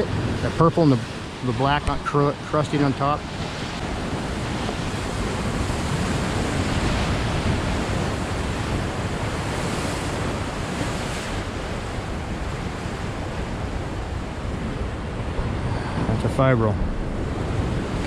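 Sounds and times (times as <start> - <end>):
ocean surf rushing through rocks: 0.0 - 18.0
wind buffeting microphone: 0.0 - 18.0.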